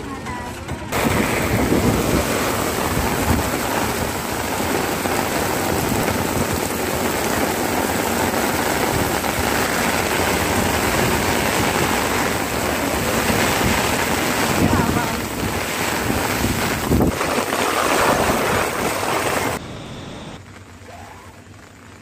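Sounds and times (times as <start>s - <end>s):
heavy rain on hard surfaces: 0.9s - 22.0s.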